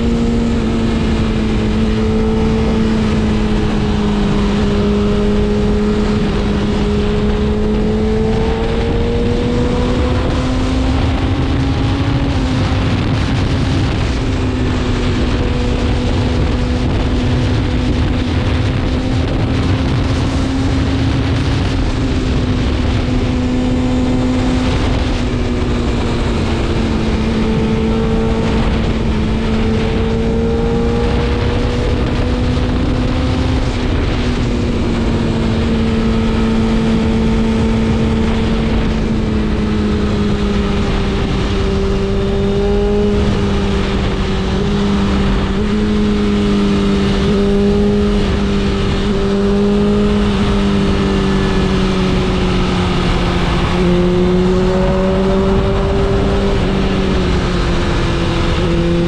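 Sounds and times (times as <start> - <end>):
motorcycle engine cruising: 0.0 - 59.0
wind rushing: 0.0 - 59.0.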